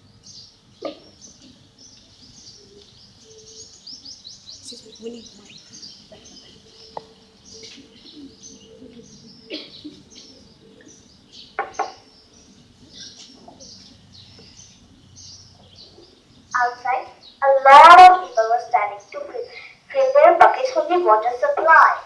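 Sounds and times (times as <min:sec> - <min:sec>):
loud bird calls: 0:00.0 - 0:22.0
small birds chirping: 0:00.0 - 0:22.0.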